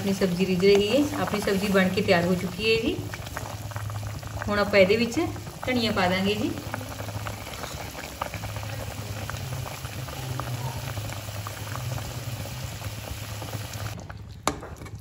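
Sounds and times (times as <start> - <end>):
gravy bubbling and popping: 0.0 - 15.0.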